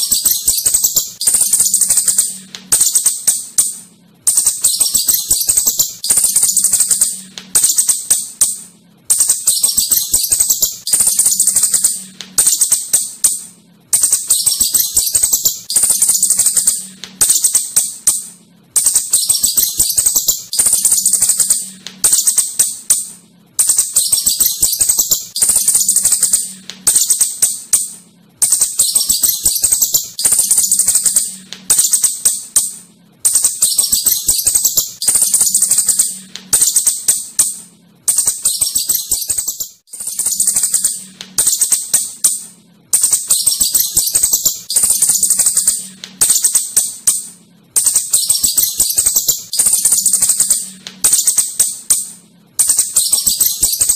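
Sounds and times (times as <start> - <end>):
shrew chattering clicks: 0.0 - 53.9.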